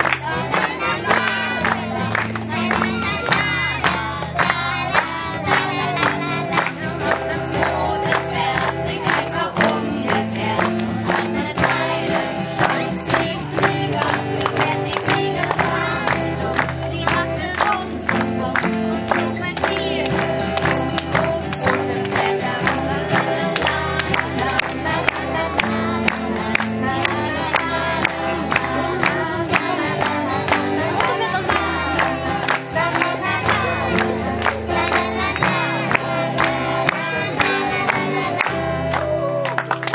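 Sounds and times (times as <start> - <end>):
children singing into a microphone: 0.0 - 38.9.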